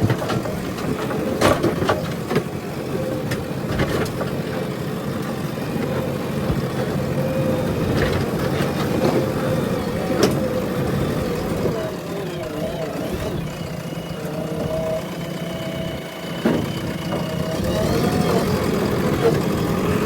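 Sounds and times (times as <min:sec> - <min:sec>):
diesel engine running with whine: 0:00.0 - 0:20.0.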